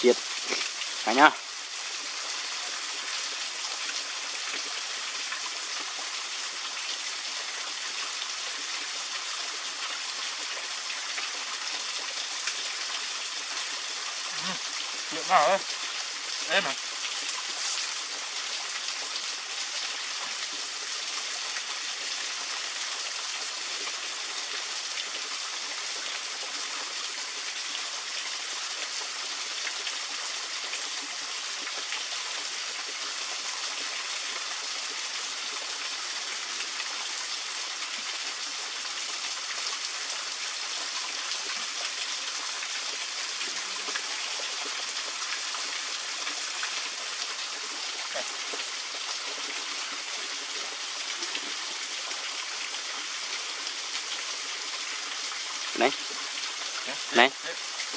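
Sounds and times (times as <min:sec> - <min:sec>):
small waterfall splashing: 0:00.0 - 0:57.9.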